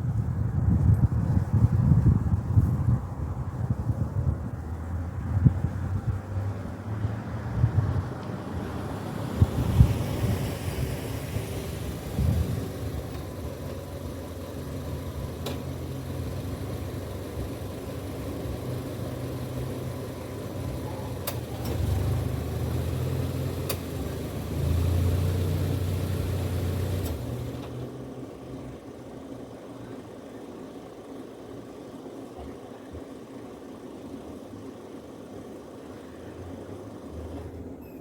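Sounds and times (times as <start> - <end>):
vehicle engines humming: 0.0 - 38.0.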